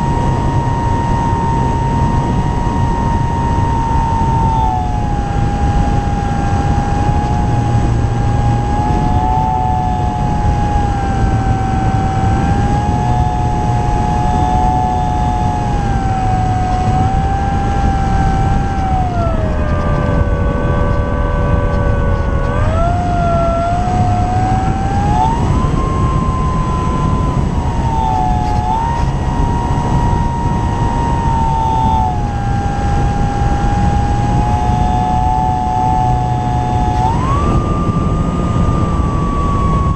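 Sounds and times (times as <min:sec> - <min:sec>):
electric motor and propeller whining: 0:00.0 - 0:39.9
wind rushing over microphone: 0:00.0 - 0:39.9.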